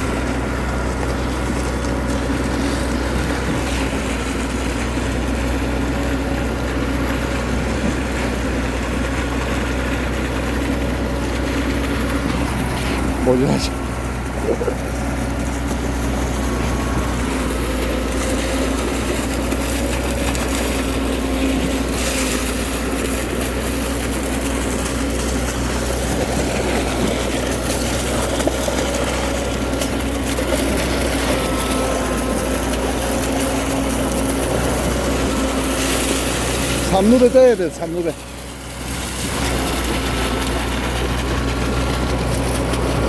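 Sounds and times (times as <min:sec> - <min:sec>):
engine humming steadily: 0:00.0 - 0:43.0.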